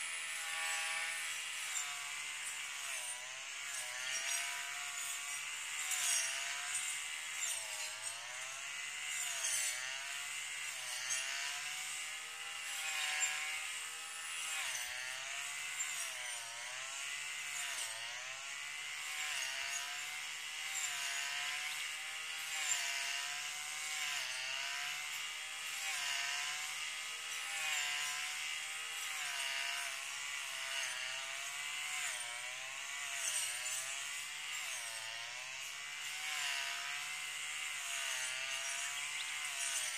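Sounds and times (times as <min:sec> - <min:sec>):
brush cutter engine whine: 0:00.0 - 0:39.9.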